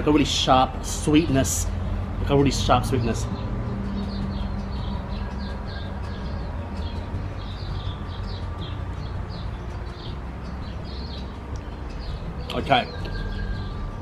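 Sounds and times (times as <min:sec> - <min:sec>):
songbird chirping: 0:00.0 - 0:14.0
low rumble: 0:00.7 - 0:12.5.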